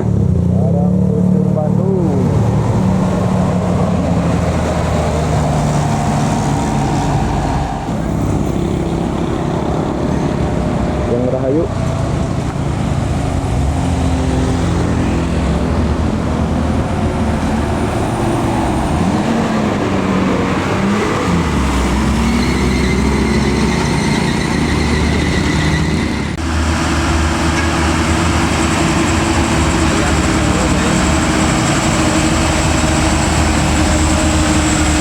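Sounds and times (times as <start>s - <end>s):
buses and trucks passing: 0.0s - 35.0s.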